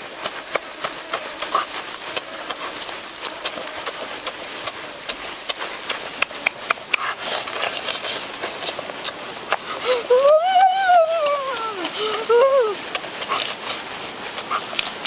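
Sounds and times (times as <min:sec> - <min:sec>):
person chewing and lip-smacking: 0:00.0 - 0:15.0.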